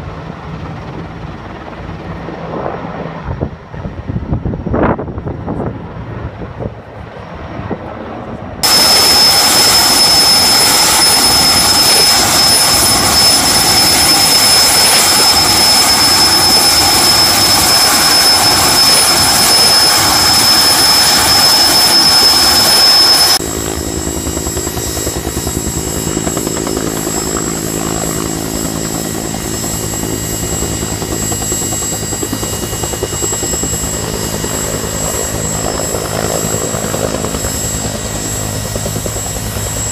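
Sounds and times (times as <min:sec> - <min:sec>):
helicopter rotor pulsing: 0:00.0 - 0:04.1, 0:04.8 - 0:39.9
helicopter turbine whine: 0:00.0 - 0:39.9.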